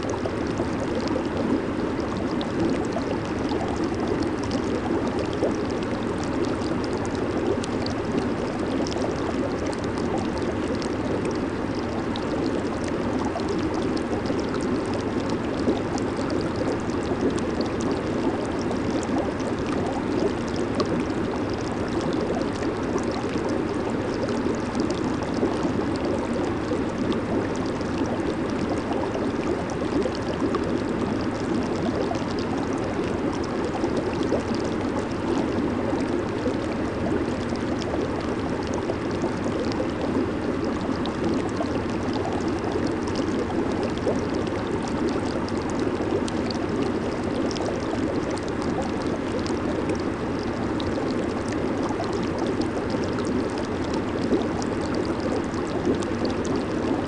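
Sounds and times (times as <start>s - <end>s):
jacuzzi water bubbling: 0.0s - 57.0s.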